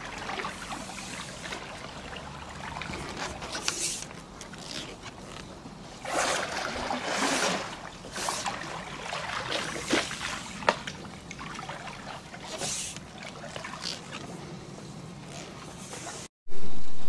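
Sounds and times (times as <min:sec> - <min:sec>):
pool brush sloshing water: 0:00.0 - 0:16.3.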